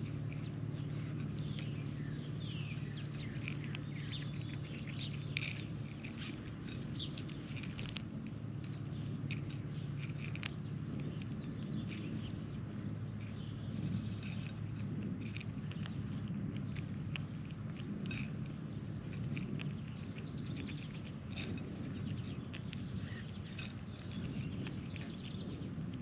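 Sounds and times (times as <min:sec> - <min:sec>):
birds chirping: 0:00.0 - 0:26.0
steady low hum: 0:00.0 - 0:26.0.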